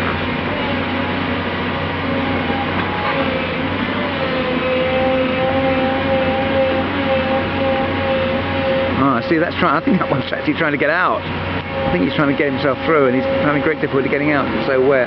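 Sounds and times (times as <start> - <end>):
heavy diesel machinery running: 0.0 - 15.0
machinery whine: 0.0 - 15.0.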